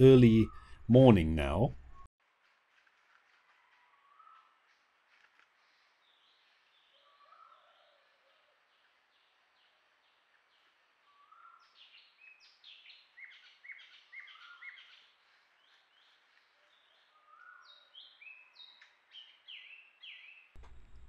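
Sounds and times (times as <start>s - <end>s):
faint birds chirping and whistling: 0.3s - 0.9s, 3.5s - 4.8s, 5.6s - 21.0s.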